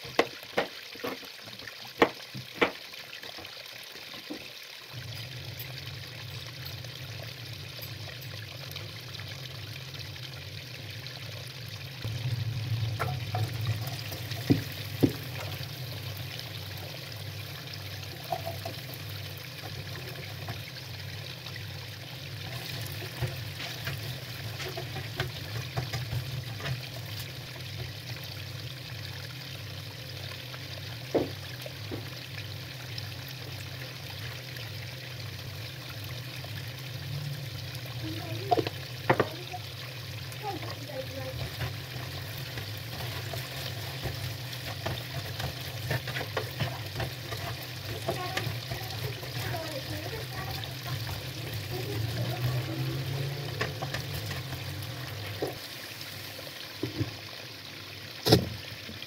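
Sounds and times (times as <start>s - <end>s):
potatoes sizzling in oil: 0.0s - 59.0s.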